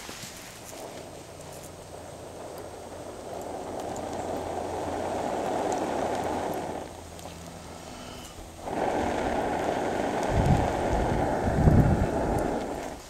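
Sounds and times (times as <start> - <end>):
fire rushing in stove: 0.0 - 13.0
low rumbling bumps: 0.0 - 13.0.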